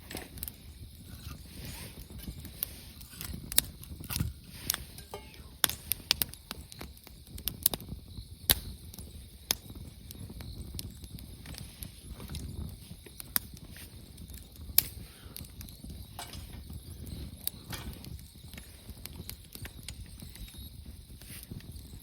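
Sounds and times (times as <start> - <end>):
sharp fire pops: 0.0 - 21.9
campfire crackling: 0.0 - 22.0
flames rushing: 0.0 - 22.0.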